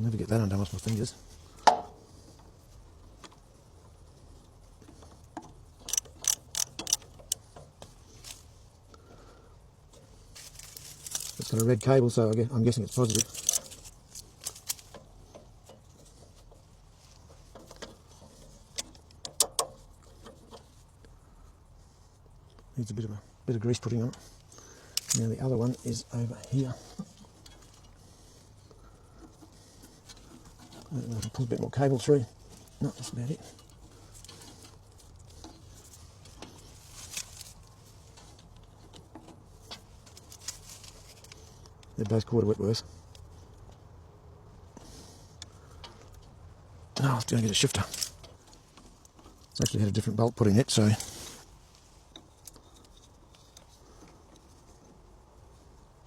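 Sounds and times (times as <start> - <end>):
clicks and rustles of handling cable: 0.0 - 56.0.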